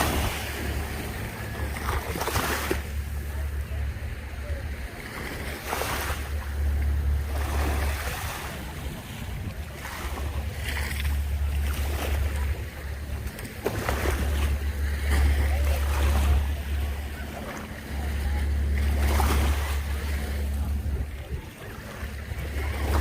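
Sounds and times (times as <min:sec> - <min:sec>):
ocean waves washing onto beach: 0:00.0 - 0:23.0
wind rumbling on microphone: 0:00.0 - 0:23.0.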